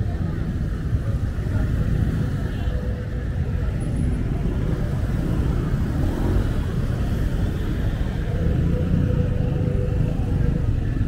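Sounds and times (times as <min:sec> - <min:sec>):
traffic engines idling: 0:00.0 - 0:11.0.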